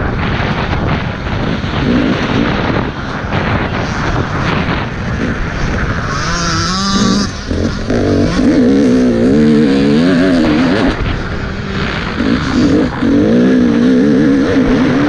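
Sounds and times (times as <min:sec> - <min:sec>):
dirt bike engine revving: 0:00.0 - 0:15.0
wind and track rumble: 0:00.0 - 0:15.0.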